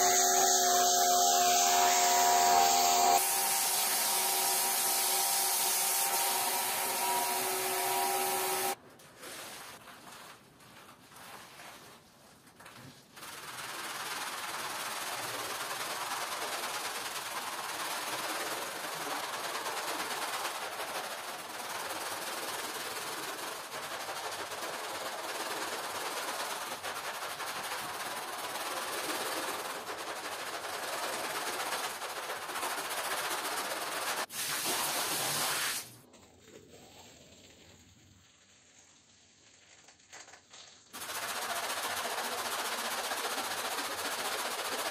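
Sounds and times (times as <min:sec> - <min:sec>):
scrub brush scrubbing wet rug: 0:00.0 - 0:35.9, 0:41.0 - 0:44.9.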